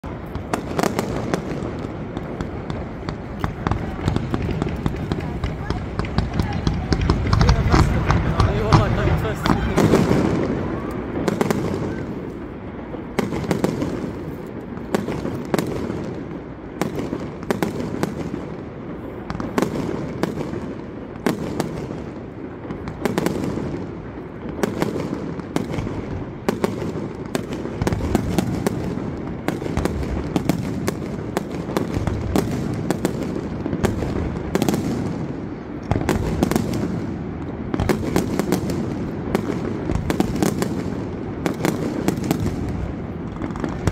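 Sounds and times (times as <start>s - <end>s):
fireworks bangs: 0.0s - 43.9s.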